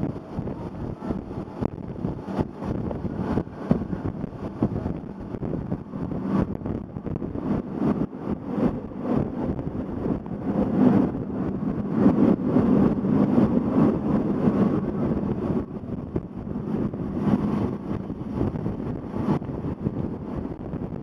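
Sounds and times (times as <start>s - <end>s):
train rumbling on track: 0.0s - 21.0s
wind buffeting microphone: 0.0s - 21.0s.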